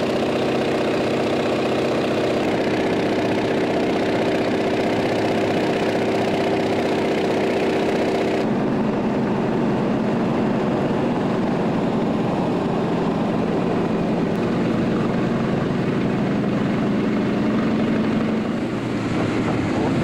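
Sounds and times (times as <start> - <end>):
propeller plane engine from cabin: 0.0 - 20.0.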